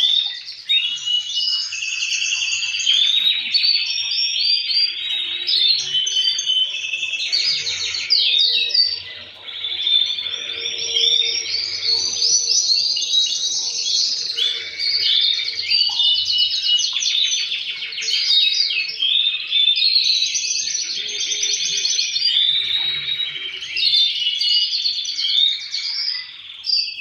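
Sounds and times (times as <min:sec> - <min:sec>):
canaries singing trills: 0:00.0 - 0:27.0.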